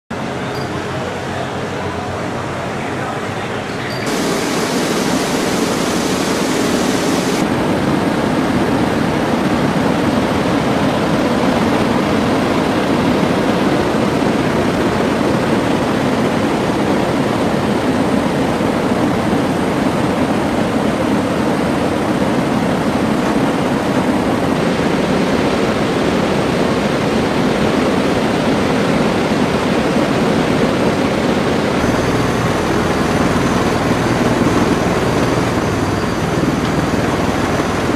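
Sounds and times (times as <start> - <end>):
helicopter engines and rotors running: 3.6 - 37.9.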